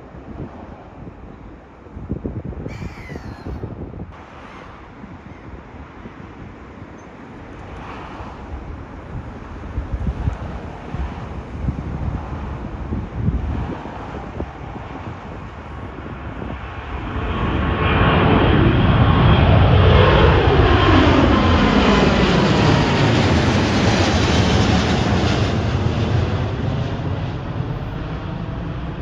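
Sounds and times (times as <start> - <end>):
jet airliner passing: 2.6 - 29.0.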